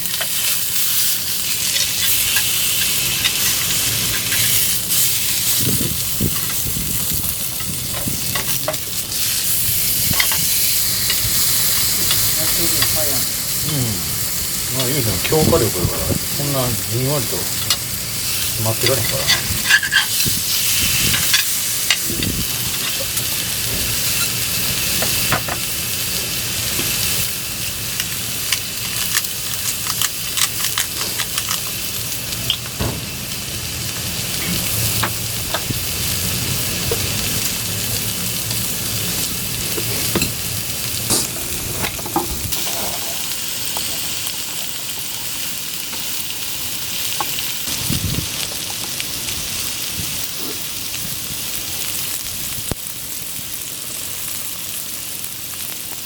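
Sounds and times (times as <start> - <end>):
steak sizzling: 0.0 - 56.0.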